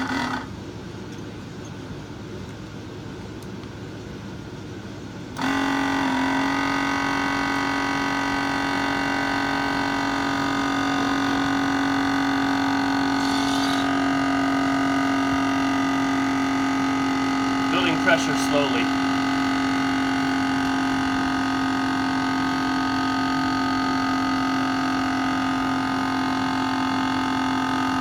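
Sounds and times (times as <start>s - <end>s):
air compressor humming: 0.0s - 28.0s.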